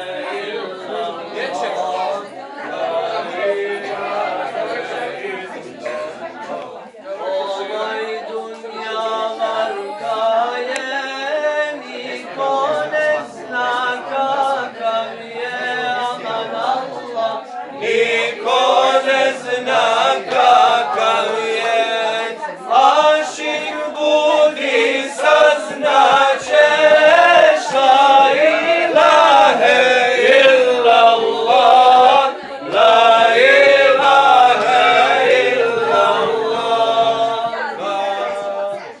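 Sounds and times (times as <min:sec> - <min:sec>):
men singing in unison: 0:00.0 - 0:06.2, 0:07.2 - 0:39.0.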